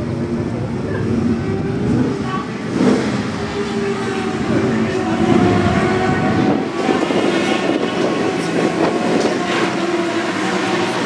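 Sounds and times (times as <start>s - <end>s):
racing engines at raised revs: 0.6s - 11.0s.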